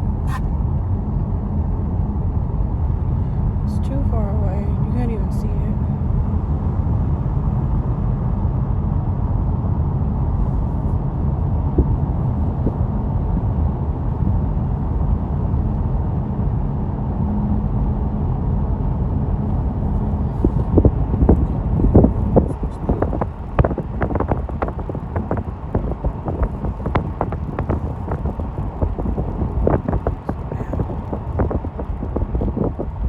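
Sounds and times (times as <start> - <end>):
car road and engine rumble: 0.0 - 33.0
faint steady hum: 0.0 - 33.0.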